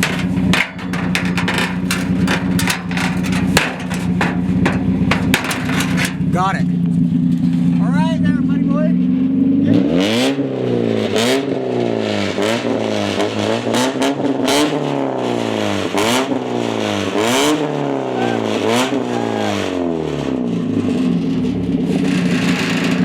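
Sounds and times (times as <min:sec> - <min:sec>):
exhaust cracks: 0:00.0 - 0:09.1, 0:09.9 - 0:23.0
car engine revving: 0:00.0 - 0:23.0.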